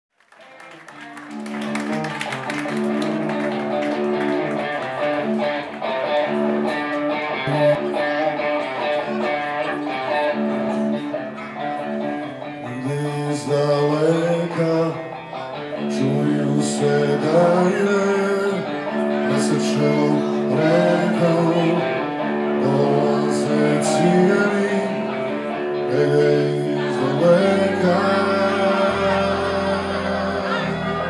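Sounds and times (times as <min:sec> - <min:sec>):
electric guitar riff: 0:00.4 - 0:31.0.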